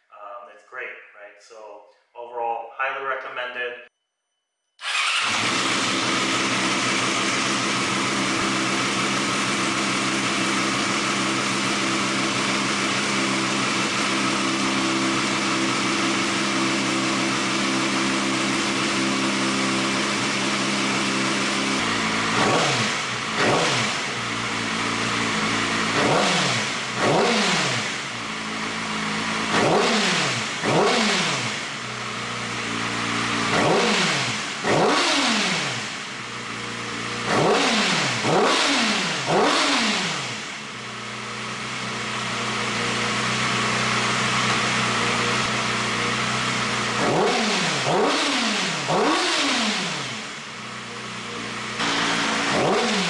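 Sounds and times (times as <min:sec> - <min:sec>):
motorcycle engine idling: 0:04.8 - 0:35.2, 0:35.8 - 0:37.6, 0:39.2 - 0:53.0
engine revving: 0:04.8 - 0:53.0.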